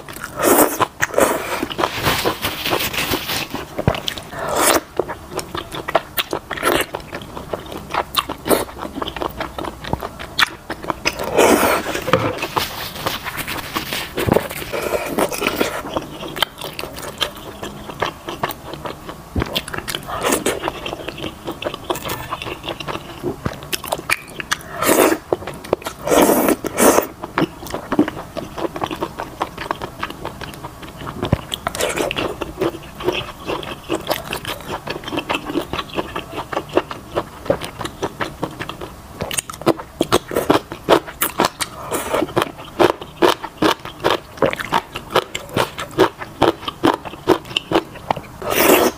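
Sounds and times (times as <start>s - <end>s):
wet chewing and mouth noises: 0.0s - 48.9s.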